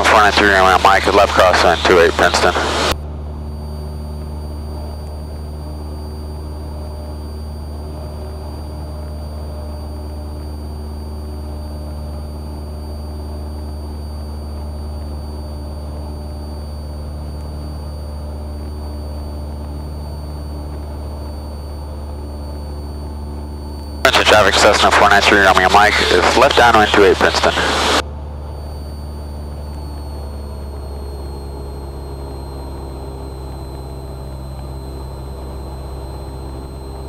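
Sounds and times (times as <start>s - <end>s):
aircraft engine and propeller droning: 0.0s - 37.0s
thin high-pitched whine: 0.0s - 37.0s.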